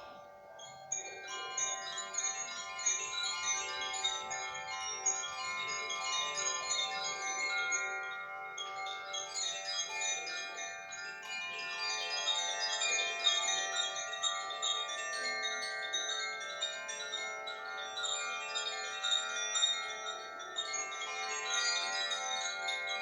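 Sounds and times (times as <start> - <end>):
wind chimes tinkling: 0.0 - 23.0.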